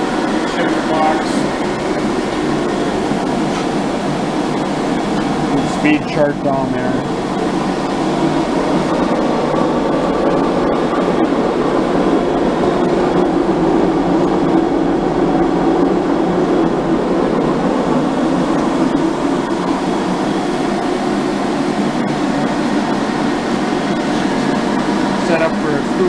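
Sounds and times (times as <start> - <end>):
grinding machine humming: 0.0 - 26.0.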